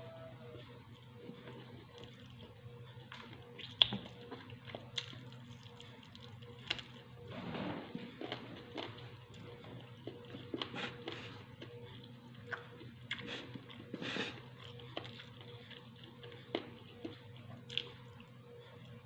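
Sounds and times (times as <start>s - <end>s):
steady low hum: 0.0s - 19.0s
person chewing food: 0.9s - 7.2s, 8.2s - 18.3s.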